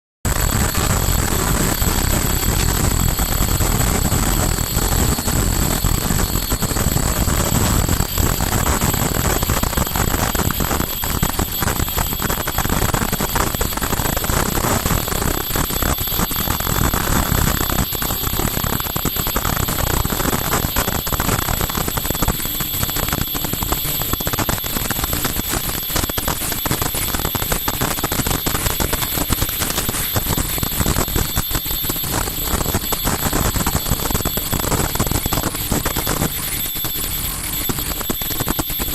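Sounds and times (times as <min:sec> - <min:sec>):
machine clatter: 0:00.3 - 0:38.9
machine high whine: 0:00.3 - 0:38.9.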